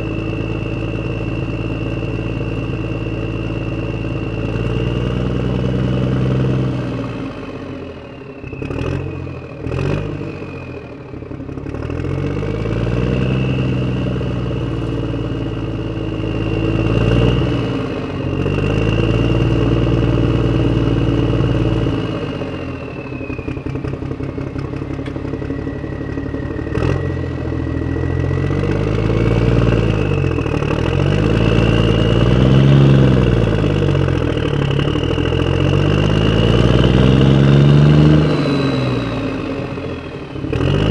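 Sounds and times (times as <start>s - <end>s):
high whine: 0.0s - 40.9s
vehicle engine revving: 0.0s - 40.9s.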